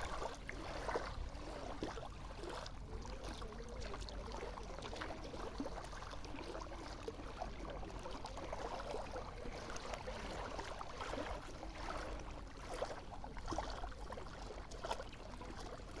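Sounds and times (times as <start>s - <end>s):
small waves lapping: 0.0s - 16.0s.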